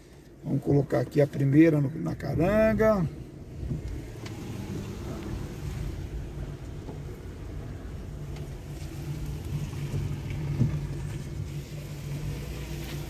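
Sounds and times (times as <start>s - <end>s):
car engine at low revs: 0.0s - 13.0s.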